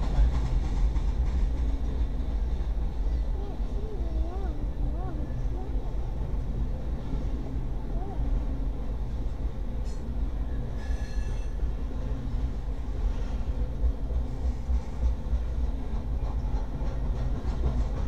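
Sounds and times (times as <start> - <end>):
freight wagons rumbling on rails: 0.0 - 18.0.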